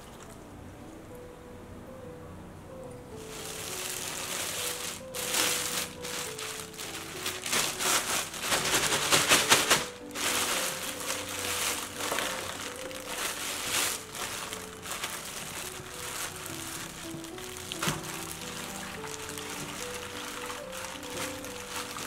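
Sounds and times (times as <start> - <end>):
soft background music: 0.0 - 22.0
plastic bag crinkling: 3.2 - 22.0.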